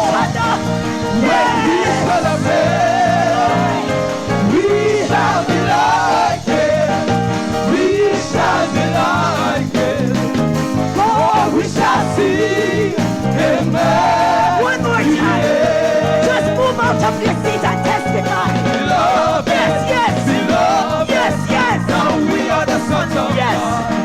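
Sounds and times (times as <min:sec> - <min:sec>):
voice singing runs: 0:00.0 - 0:07.1, 0:10.9 - 0:24.0
keyboard and band playing: 0:00.0 - 0:24.0.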